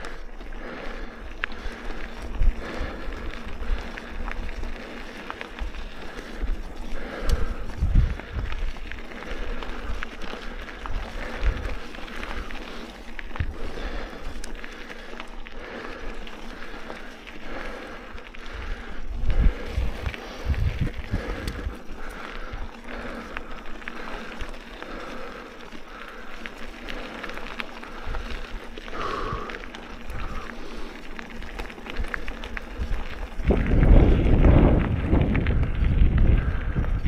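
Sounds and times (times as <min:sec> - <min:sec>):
bike clicks and rattles: 0:00.0 - 0:37.0
bike tyre riding noise: 0:00.0 - 0:37.0.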